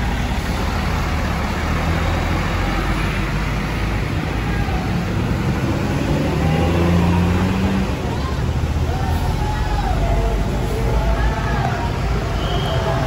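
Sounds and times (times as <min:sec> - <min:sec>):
large vehicle engine running: 0:00.0 - 0:13.0
traffic noise: 0:00.0 - 0:13.0.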